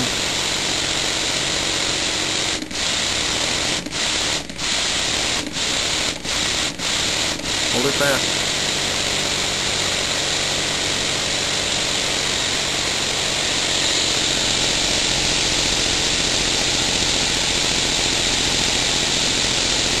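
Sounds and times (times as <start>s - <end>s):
fast mechanical whir: 0.0s - 20.0s.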